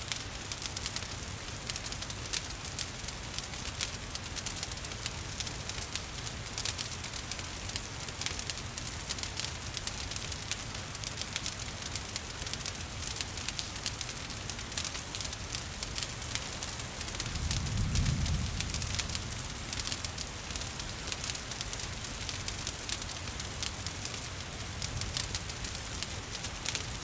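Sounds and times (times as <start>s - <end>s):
gentle rain hiss: 0.0s - 27.0s
wood fire crackling: 0.0s - 27.0s.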